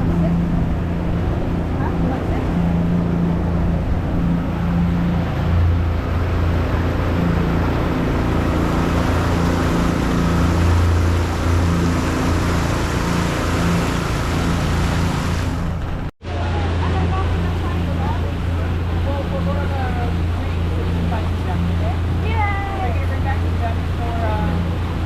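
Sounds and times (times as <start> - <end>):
ferry engine droning: 0.0 - 25.0.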